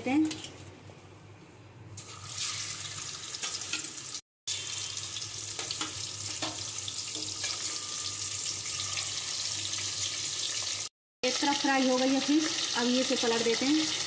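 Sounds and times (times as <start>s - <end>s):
fish sizzling in hot oil: 2.1s - 14.0s.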